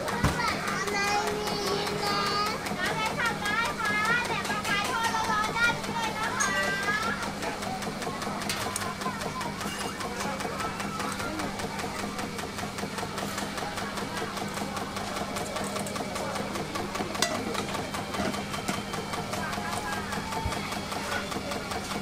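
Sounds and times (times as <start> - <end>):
faint background chatter: 0.0 - 22.0
motor humming: 0.0 - 22.0.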